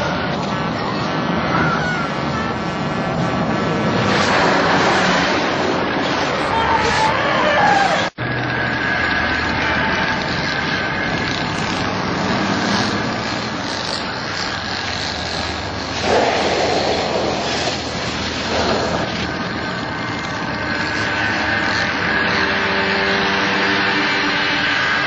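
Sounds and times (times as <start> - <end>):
engine drone: 0.0 - 25.0.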